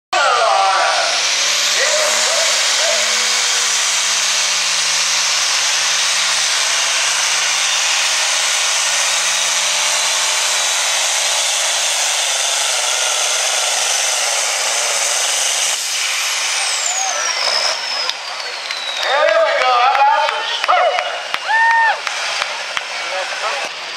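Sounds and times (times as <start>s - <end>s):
tractor diesel engine at full throttle: 0.1s - 21.4s, 22.0s - 23.9s
turbo rushing: 0.2s - 23.7s.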